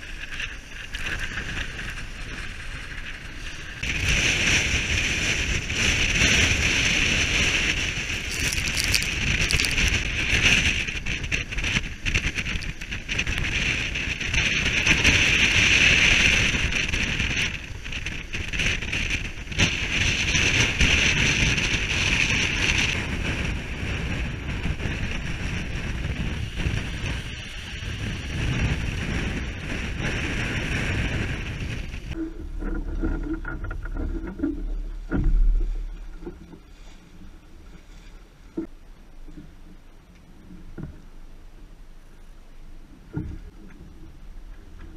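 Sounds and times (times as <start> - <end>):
wind buffeting microphone: 0.0 - 39.7
rough seas breaking on hull: 0.0 - 41.2.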